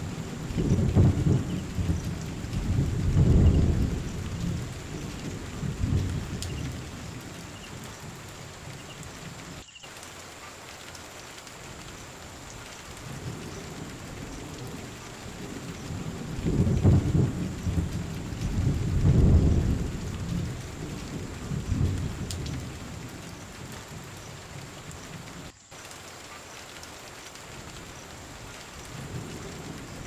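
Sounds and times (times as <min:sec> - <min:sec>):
heavy rain on leaves: 0:00.0 - 0:30.0.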